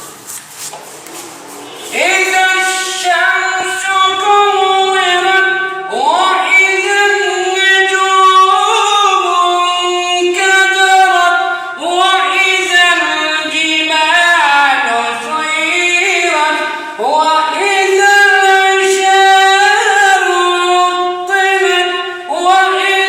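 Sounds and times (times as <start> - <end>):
high voice melodic chanting: 0.0 - 23.0.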